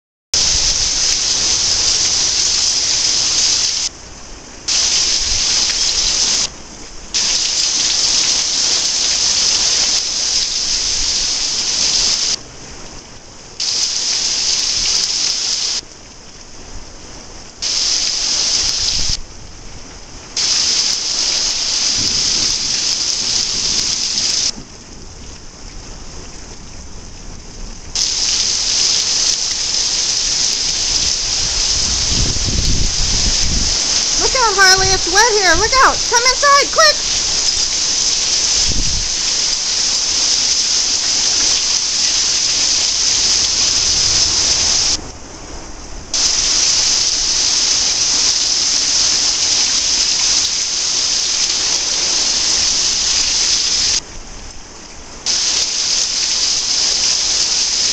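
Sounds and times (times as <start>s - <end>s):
heavy rain pouring: 0.4s - 57.9s.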